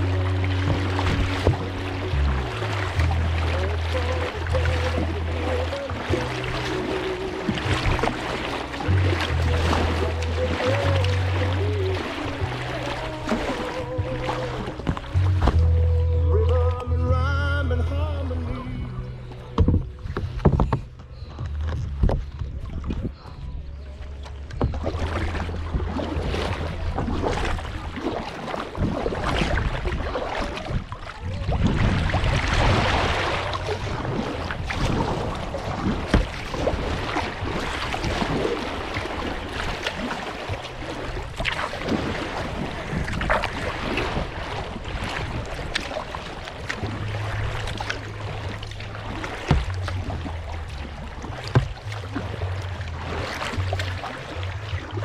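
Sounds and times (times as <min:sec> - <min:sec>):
paddle splashing in water: 0:00.0 - 0:17.0, 0:18.2 - 0:55.0
wind on microphone: 0:00.0 - 0:55.0.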